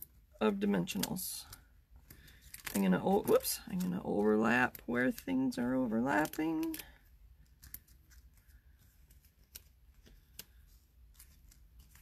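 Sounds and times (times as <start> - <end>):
paper clicks and rustles: 0.8 - 12.0.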